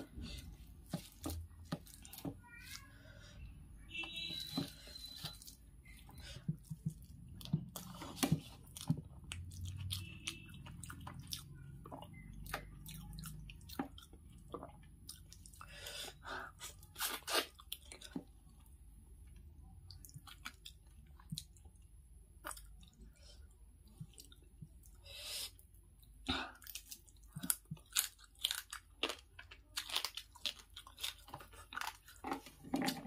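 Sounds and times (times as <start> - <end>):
person chewing: 0.0 - 2.9, 4.1 - 18.8, 19.9 - 33.0.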